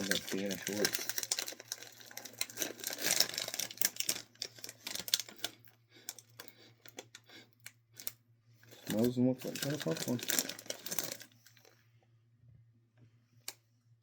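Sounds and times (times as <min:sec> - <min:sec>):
plastic snack bag crinkling: 0:00.0 - 0:11.8.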